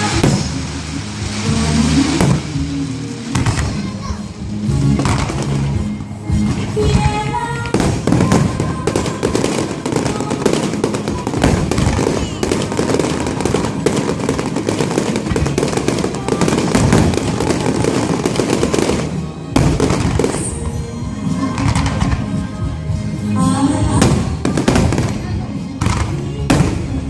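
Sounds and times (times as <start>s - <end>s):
fireworks bursting and crackling: 0.0s - 27.0s
music playing: 0.0s - 27.0s.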